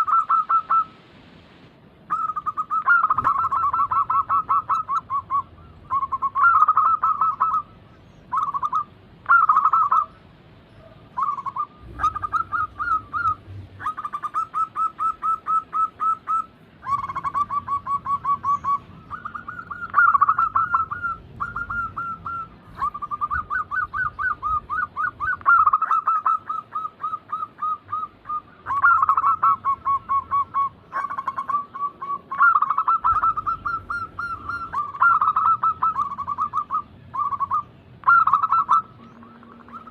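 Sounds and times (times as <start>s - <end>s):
doves cooing: 0.0s - 1.0s, 2.0s - 39.9s.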